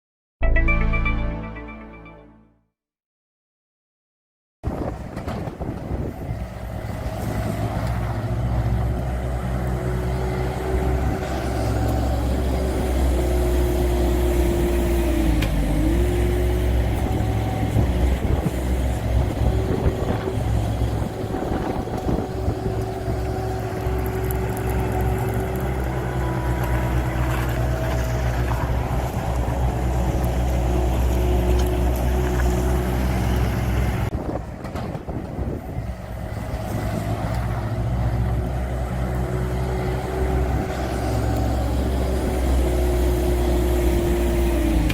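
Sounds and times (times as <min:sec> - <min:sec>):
heavy machine engine running: 0:04.9 - 0:44.9.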